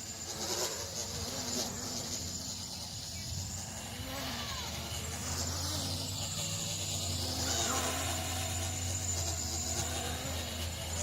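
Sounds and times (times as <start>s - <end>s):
quadcopter motors whirring: 0.0s - 11.0s.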